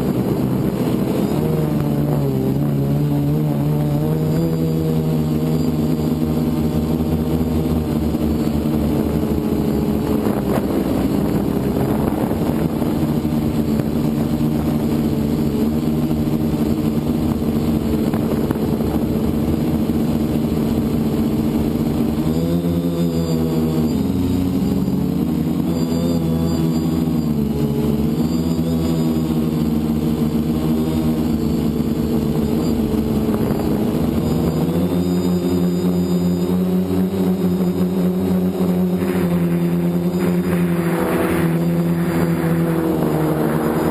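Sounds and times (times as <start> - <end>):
drone motors droning hum: 0.0 - 43.9.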